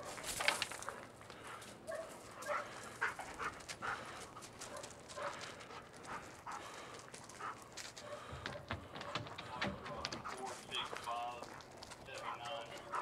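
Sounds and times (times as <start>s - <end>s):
dog panting and sniffing: 0.0s - 13.0s
footsteps and scuffs: 0.0s - 13.0s.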